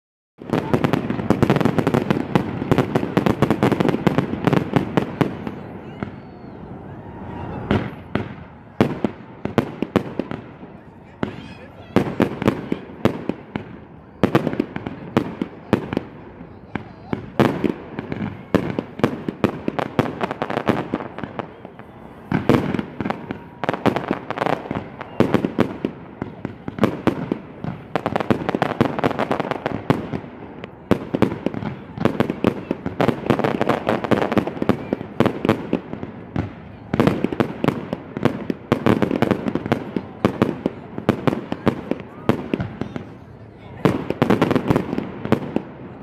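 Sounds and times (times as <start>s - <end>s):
fireworks bangs and crackles: 0.4s - 46.0s.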